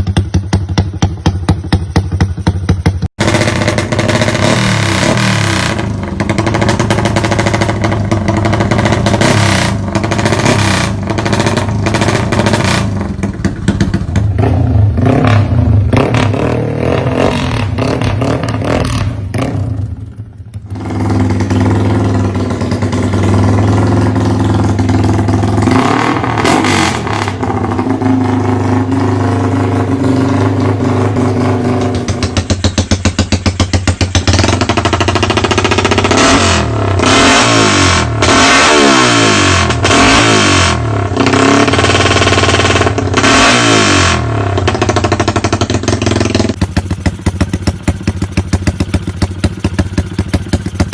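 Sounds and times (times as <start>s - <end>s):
motorcycle engine revving high: 0.0s - 50.9s.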